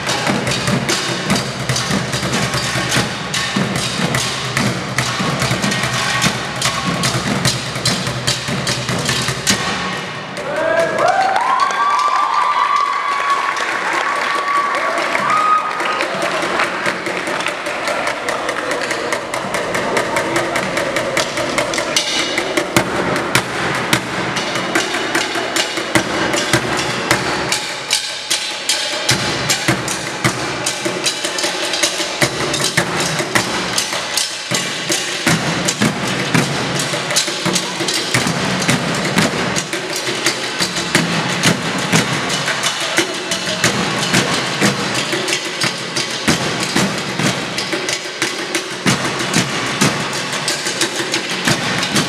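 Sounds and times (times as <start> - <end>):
drumming on plastic buckets: 0.0 - 52.0.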